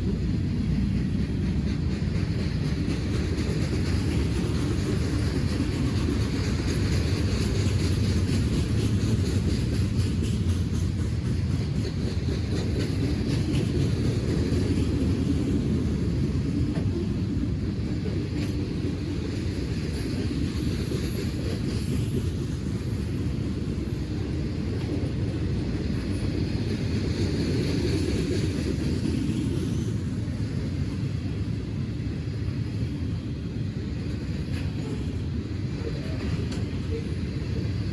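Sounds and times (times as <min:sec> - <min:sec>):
train rumbling past: 0:00.0 - 0:37.9.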